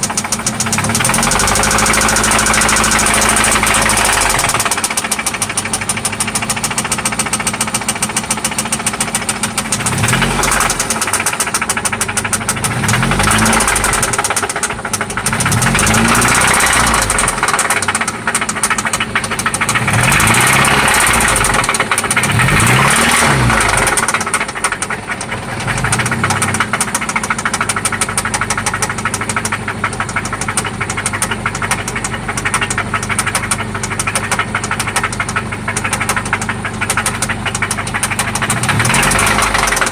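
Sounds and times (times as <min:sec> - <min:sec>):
car engine revving: 0:00.0 - 0:39.9
engine knocking tick: 0:00.0 - 0:39.9.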